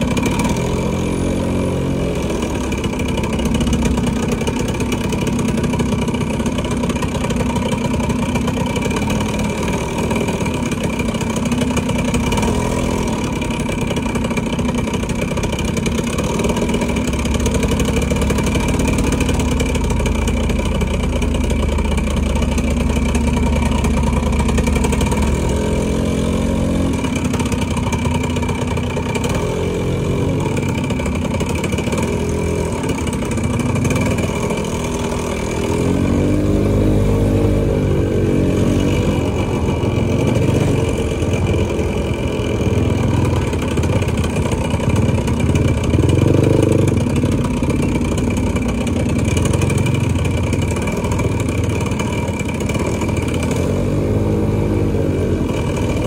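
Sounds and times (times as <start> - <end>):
motorcycle engine running: 0.0 - 56.0
road and traffic noise: 0.0 - 56.0.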